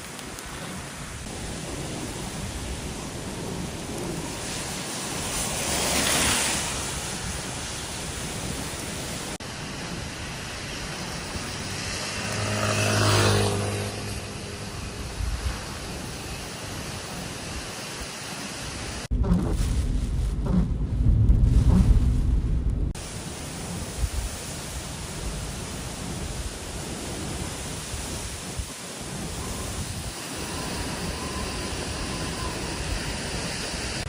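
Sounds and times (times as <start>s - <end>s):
rain: 0.0s - 34.0s
strong wind: 0.0s - 34.0s
wind gusts buffeting microphone: 0.0s - 34.0s.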